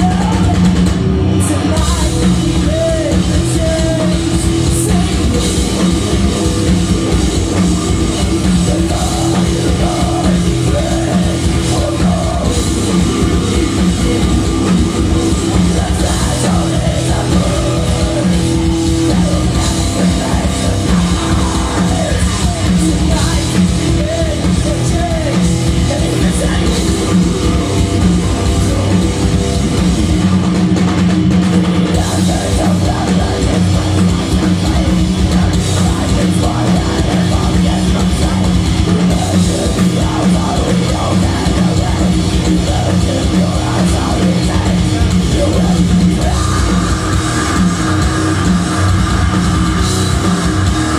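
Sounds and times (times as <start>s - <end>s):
person singing: 0.0s - 7.1s, 7.8s - 30.4s, 31.9s - 50.9s
heavy metal band playing: 0.0s - 50.9s.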